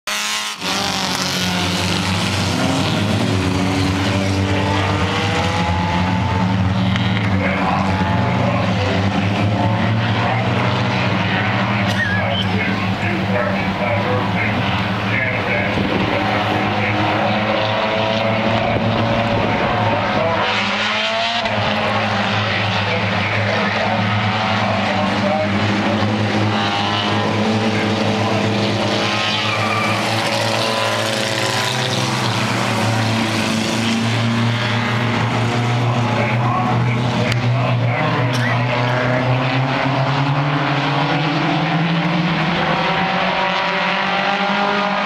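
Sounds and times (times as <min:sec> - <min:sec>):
race car engines passing: 0:00.1 - 0:45.0.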